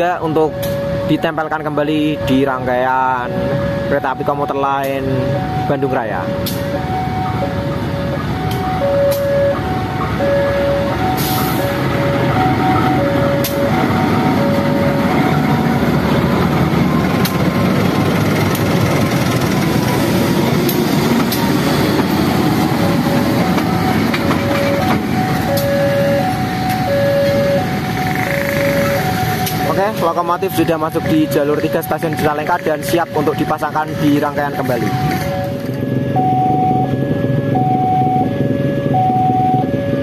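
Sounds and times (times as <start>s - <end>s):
diesel locomotive engine passing: 0.0s - 40.0s.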